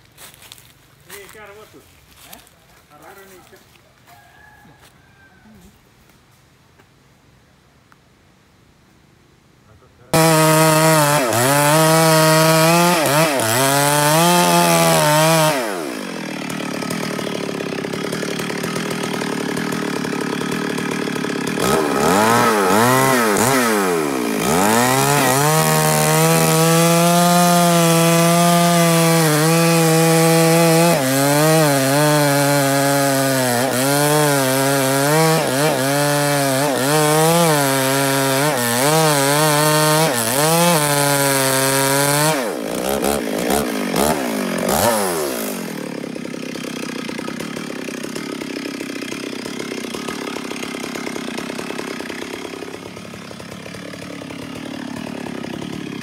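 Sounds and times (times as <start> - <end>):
chainsaw cutting log: 0.0 - 4.9, 10.1 - 56.0.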